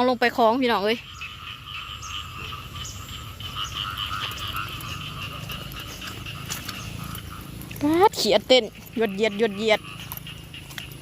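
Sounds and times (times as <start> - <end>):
frogs calling: 0.0 - 11.0.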